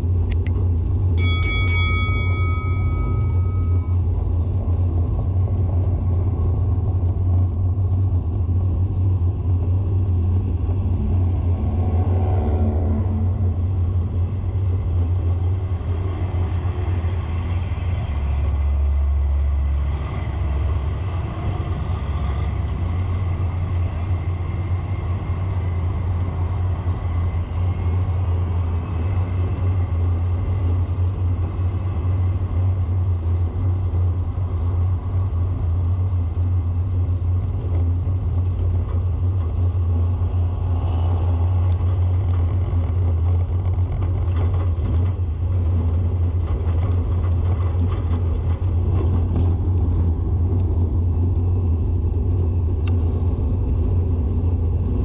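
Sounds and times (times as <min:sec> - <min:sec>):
vehicle engine and road rumble: 0:00.0 - 0:55.0.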